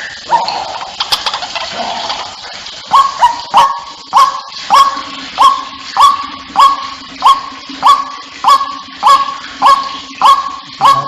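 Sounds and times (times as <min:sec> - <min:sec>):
waterhen calling: 0:00.0 - 0:11.0.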